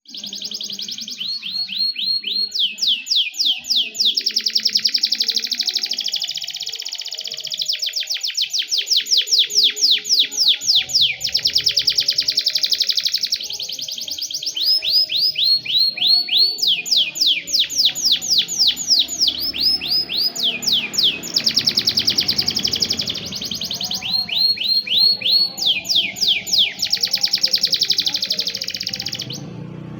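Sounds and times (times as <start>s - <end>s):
canary singing trills: 0.0s - 29.6s.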